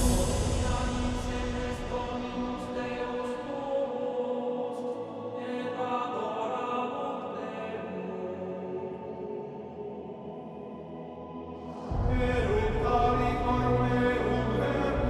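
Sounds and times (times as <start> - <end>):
slow choral music: 0.0 - 15.0.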